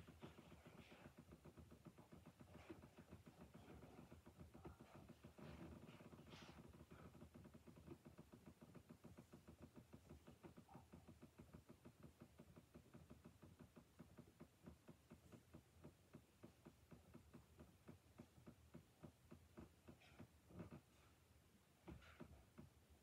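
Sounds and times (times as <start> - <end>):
faint rapid ticking: 0.0 - 23.0.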